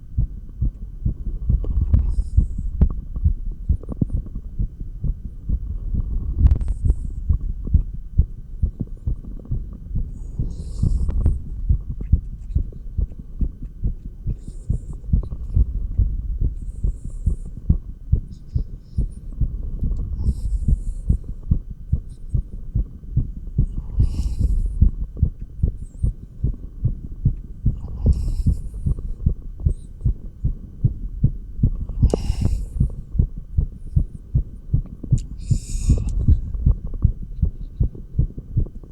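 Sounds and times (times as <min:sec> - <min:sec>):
heartbeat through stethoscope: 0:00.0 - 0:38.9.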